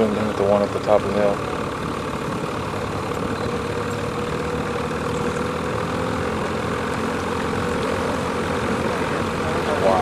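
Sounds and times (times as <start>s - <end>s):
motor idling: 0.0s - 10.0s.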